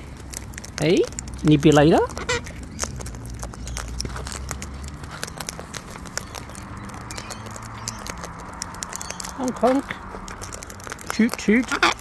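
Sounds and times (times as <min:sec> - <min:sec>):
cockatoos clicking while feeding: 0:00.0 - 0:12.0.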